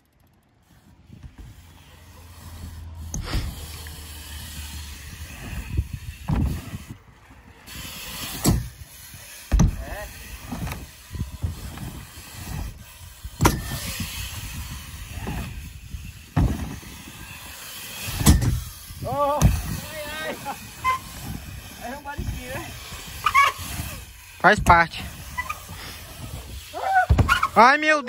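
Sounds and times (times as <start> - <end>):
bike tyres rolling over wood: 0.0 - 27.7
bikes thudding on wooden ramps: 0.1 - 27.8.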